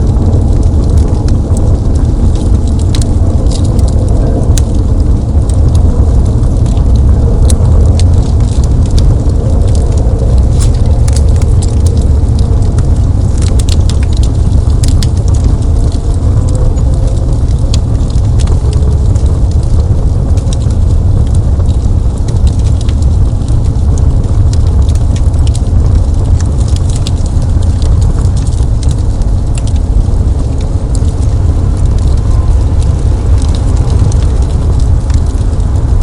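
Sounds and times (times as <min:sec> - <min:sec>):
fire crackling and popping: 0:00.0 - 0:36.0
fire rumbling: 0:00.0 - 0:36.0.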